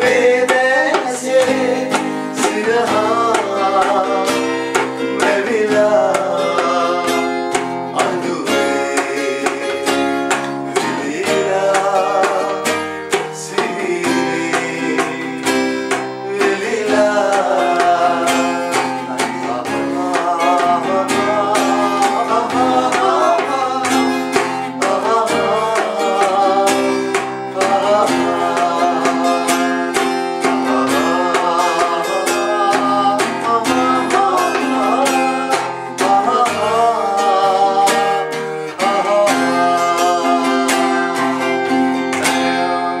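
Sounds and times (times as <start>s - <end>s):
man singing: 0.0s - 43.0s
strummed acoustic guitar: 0.0s - 43.0s.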